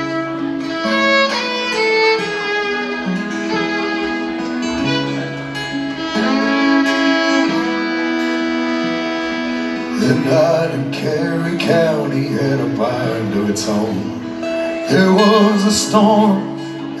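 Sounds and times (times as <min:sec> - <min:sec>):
acoustic guitar: 0:00.0 - 0:17.0
fiddle playing long notes: 0:00.0 - 0:17.0.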